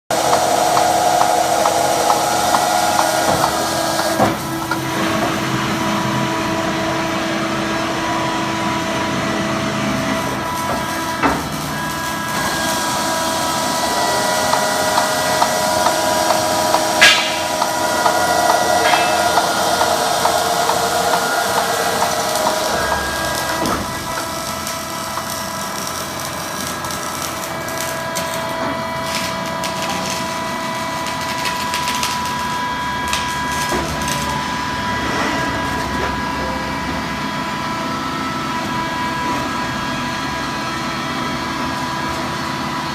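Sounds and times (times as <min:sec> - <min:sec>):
machine whine: 0:00.1 - 0:42.9.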